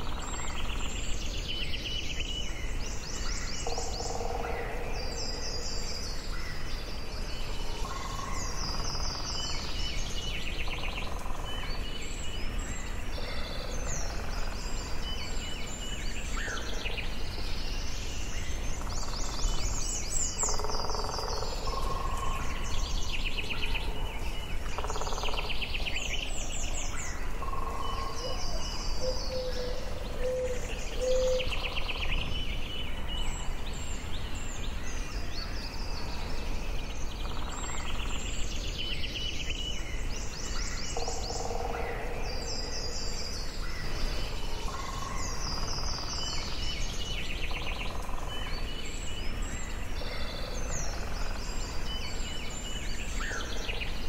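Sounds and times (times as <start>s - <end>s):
birds singing and calling: 0.0s - 54.0s
low background noise: 0.0s - 54.0s.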